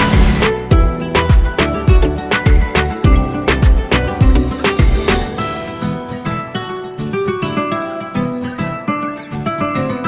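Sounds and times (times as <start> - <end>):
acoustic guitar music with beat: 0.0 - 10.0.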